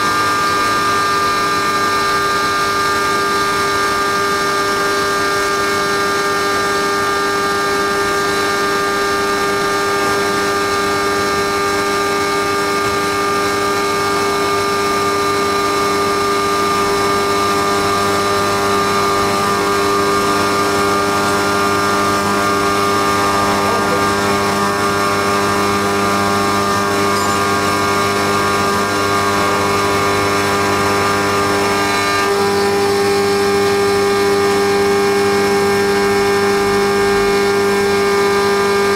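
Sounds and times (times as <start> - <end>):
milling machine whine: 0.0 - 38.9.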